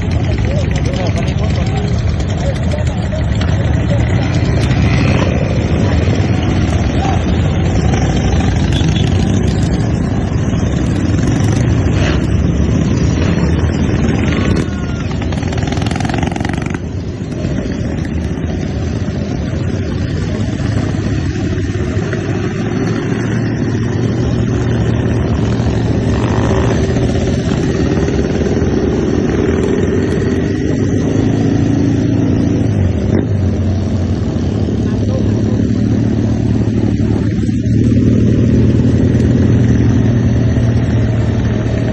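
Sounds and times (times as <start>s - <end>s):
motorcycle engines rumbling: 0.0s - 41.9s.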